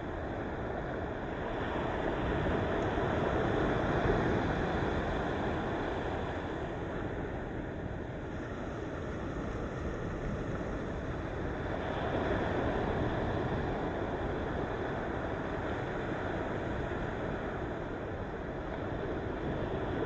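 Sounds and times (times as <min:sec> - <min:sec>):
sea waves breaking on shore: 0:00.1 - 0:20.0.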